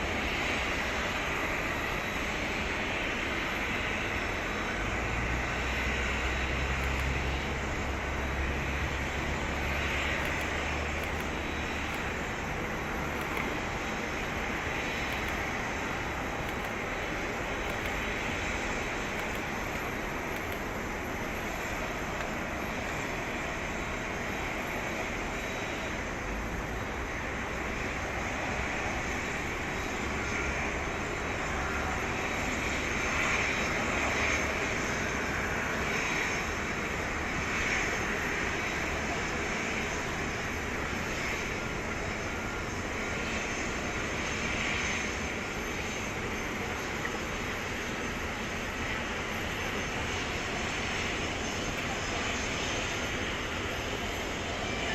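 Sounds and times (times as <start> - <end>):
jet engines at taxi power: 0.0 - 54.9.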